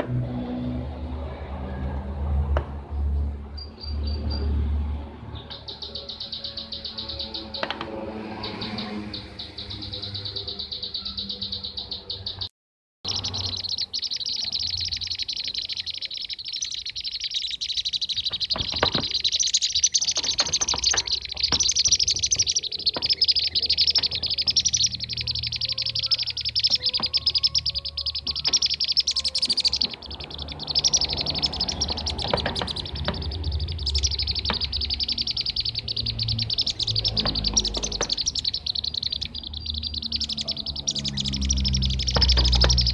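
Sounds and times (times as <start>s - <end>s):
birds chirping rapidly: 0.0s - 42.9s.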